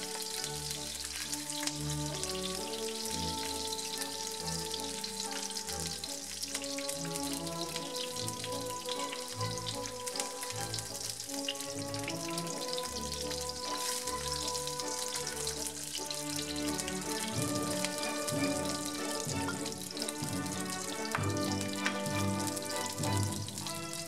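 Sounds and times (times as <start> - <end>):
background music: 0.0 - 24.0
vegetables sizzling in oil: 0.0 - 24.0.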